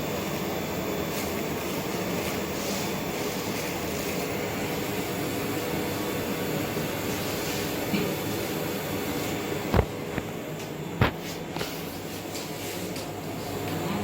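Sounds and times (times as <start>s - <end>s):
fan-like machine noise: 0.0s - 14.0s.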